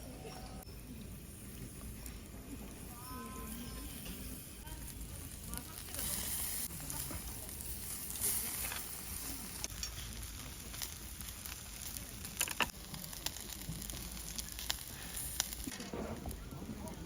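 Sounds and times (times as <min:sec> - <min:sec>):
fire crackling and popping: 0:00.6 - 0:17.0.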